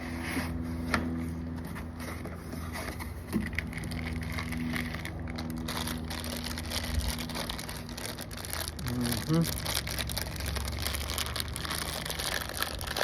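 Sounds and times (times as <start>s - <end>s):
packaging rustling and crinkling: 1.6s - 13.0s.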